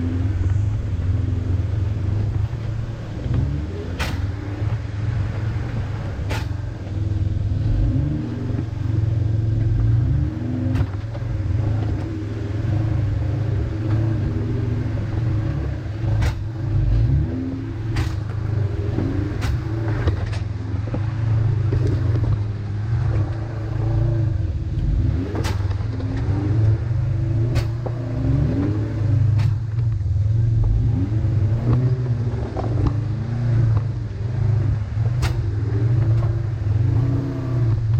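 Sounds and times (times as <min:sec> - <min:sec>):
engine revving at low speed: 0:00.0 - 0:37.9.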